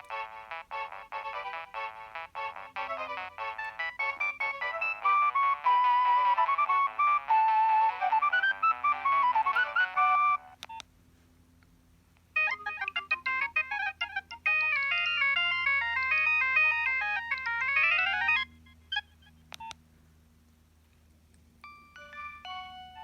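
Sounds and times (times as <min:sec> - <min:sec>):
mobile phone ringtone melody: 0:00.0 - 0:10.6, 0:12.4 - 0:19.1, 0:21.6 - 0:23.0.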